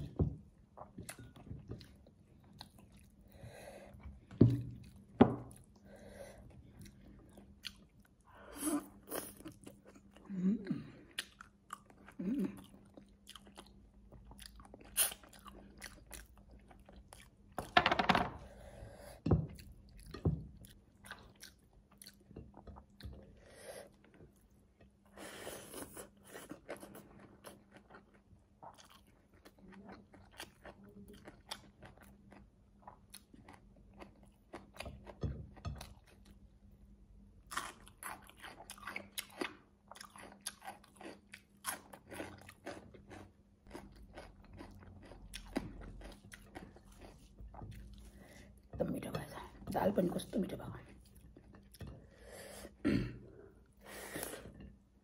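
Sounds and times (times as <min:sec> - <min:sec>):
chewing and crunching food: 0:00.0 - 0:17.7, 0:19.4 - 0:52.2.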